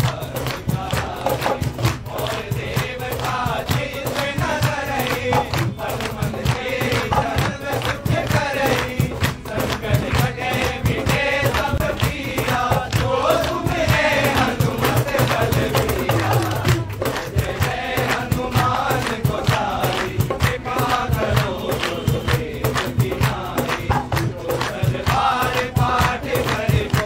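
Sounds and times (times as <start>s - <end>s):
acoustic guitar: 0.0s - 27.0s
group singing a chant: 0.0s - 27.0s
hand drum: 0.0s - 27.0s
rhythmic hand-clapping: 0.0s - 27.0s.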